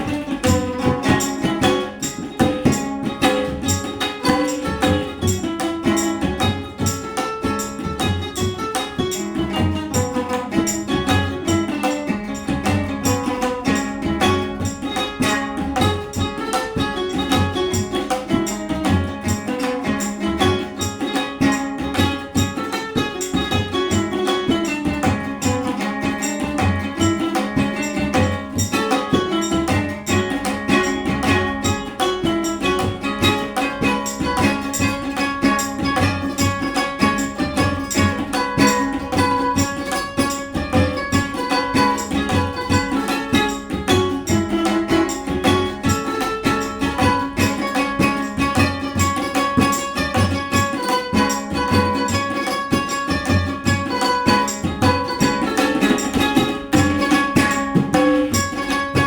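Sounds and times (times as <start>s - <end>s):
tabla drum strokes: 0.0s - 59.0s
ukulele melody: 0.0s - 59.0s.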